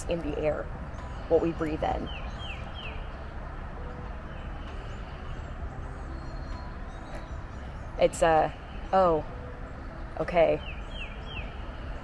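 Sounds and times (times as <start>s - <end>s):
small birds chirping: 0.0s - 3.4s, 4.1s - 12.0s.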